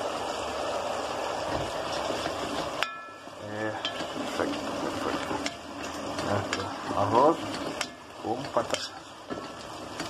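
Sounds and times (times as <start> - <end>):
potatoes sizzling in butter: 0.0 - 10.0.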